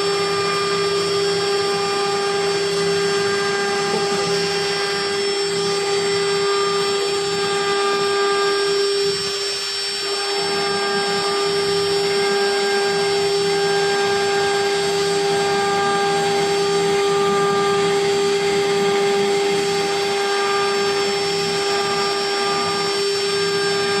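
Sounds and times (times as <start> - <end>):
machine spindle whining: 0.0 - 24.0.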